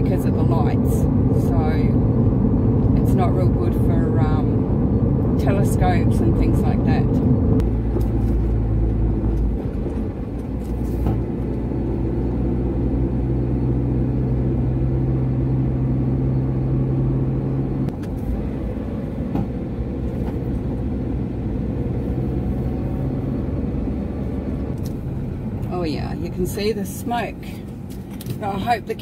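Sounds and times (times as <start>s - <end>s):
car engine idling: 0.0s - 29.0s
low wind rumble: 0.0s - 29.0s.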